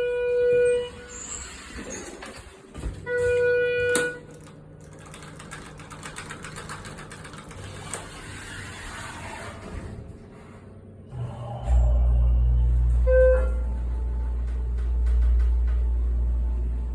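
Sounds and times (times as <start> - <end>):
elevator humming and rattling: 0.0 - 16.9.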